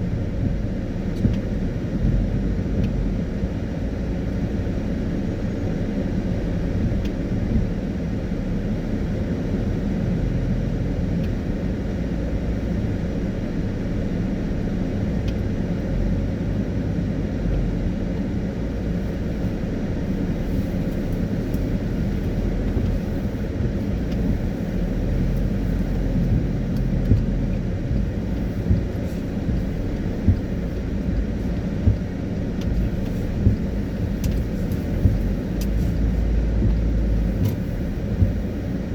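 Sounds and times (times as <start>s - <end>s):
car driving on wet road: 0.0s - 38.9s.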